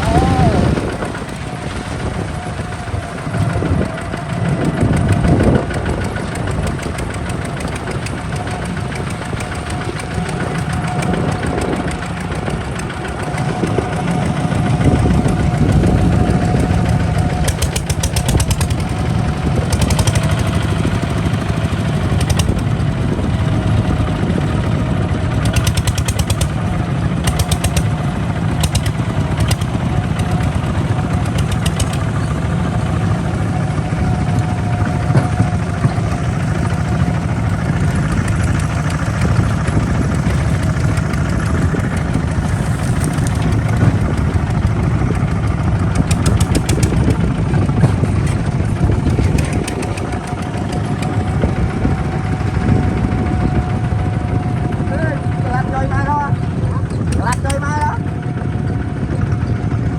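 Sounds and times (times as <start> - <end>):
diesel engine clattering: 0.0 - 59.9.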